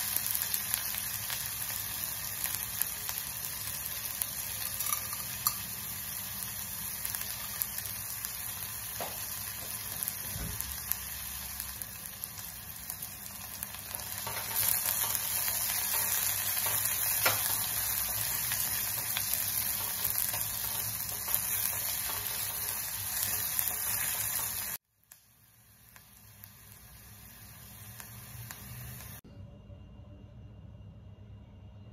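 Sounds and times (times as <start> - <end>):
onions sizzling in hot oil: 0.0 - 29.2.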